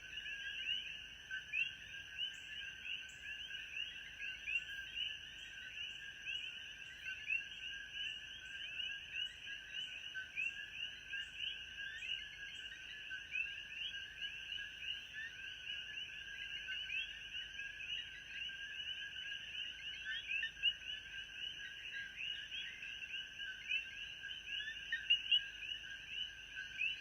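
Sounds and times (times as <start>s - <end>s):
chorus of frogs calling: 0.0s - 27.0s.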